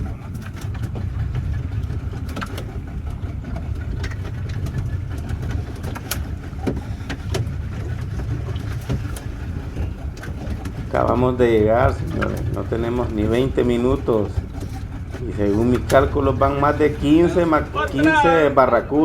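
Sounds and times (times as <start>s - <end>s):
motor rumbling: 0.0s - 19.0s.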